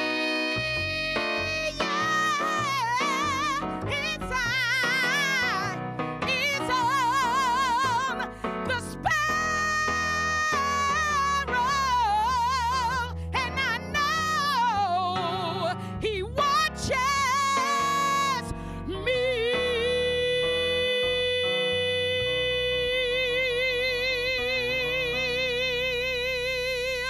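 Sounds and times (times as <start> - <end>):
woman singing with vibrato: 0.0 - 27.0.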